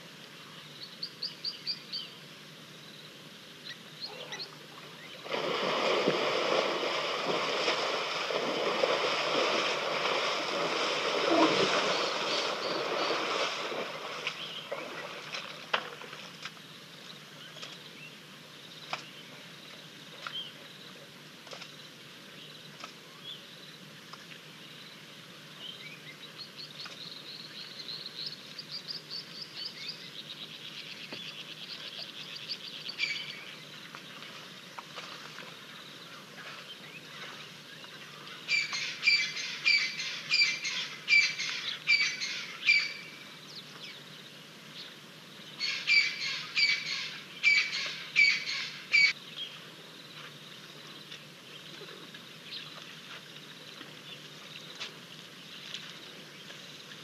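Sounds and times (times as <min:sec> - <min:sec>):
birds chirping softly: 0:00.2 - 0:05.4, 0:11.1 - 0:57.0.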